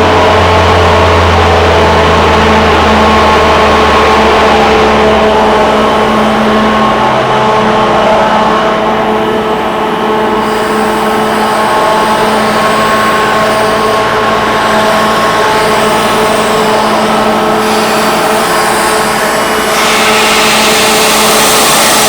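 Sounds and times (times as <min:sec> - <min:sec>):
air compressor drone: 0:00.0 - 0:22.0.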